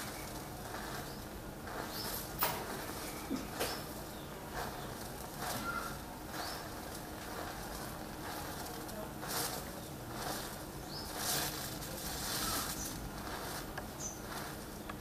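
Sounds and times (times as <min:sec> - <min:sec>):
matches flaring with hisses: 0:00.0 - 0:15.0.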